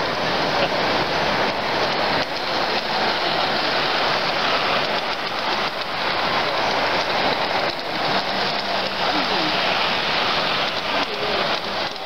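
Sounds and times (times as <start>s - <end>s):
metal wheels clattering over rail: 1.4s - 12.0s.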